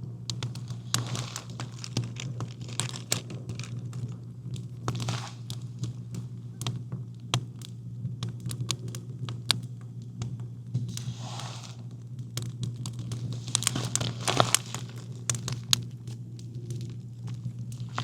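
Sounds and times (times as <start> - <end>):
campfire crackling: 0.0 - 18.0
steady low hum: 0.0 - 18.0.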